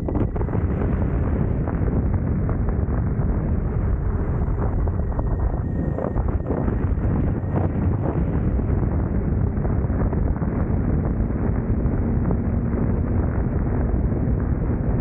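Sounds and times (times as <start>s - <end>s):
wind rush on microphone: 0.0s - 15.0s.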